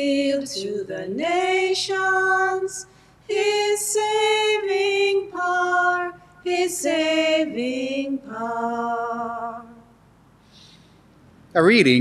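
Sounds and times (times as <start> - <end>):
woman singing unaccompanied: 0.0 - 10.0.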